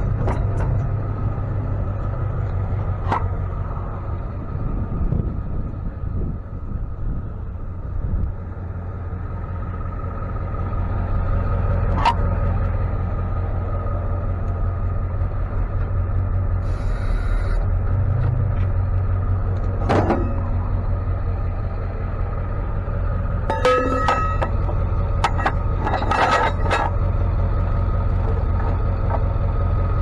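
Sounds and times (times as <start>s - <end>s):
truck engine and road rumble: 0.0s - 30.0s.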